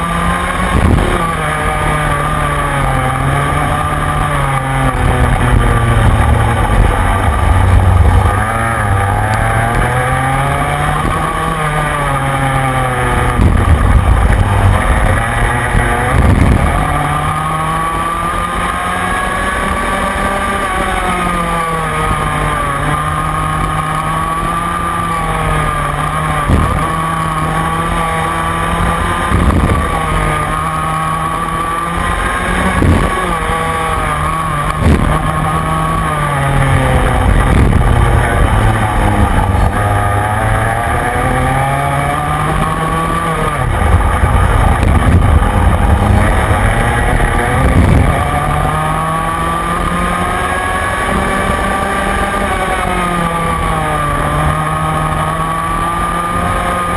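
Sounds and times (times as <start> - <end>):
kart engine at racing speed: 0.0 - 56.9.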